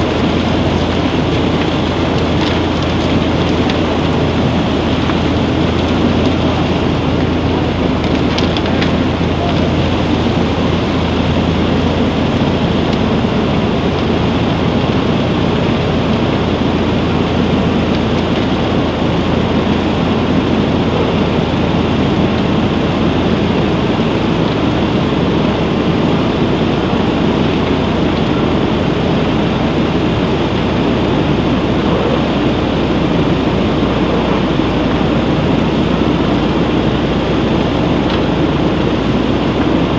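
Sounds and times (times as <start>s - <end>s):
loud mechanical machinery noise: 0.0s - 39.9s.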